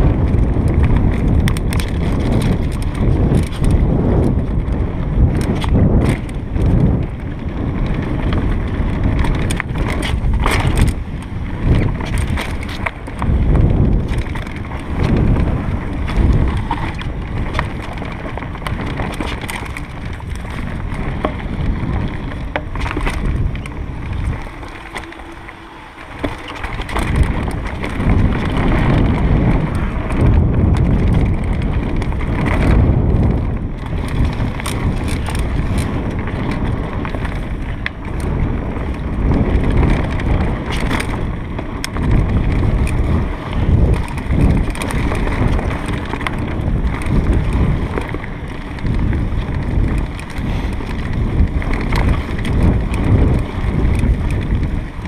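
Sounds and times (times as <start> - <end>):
bike clicks and rattles: 0.0 - 55.0
tyres rumbling over trail: 0.0 - 55.0
wind buffeting microphone: 0.0 - 55.0.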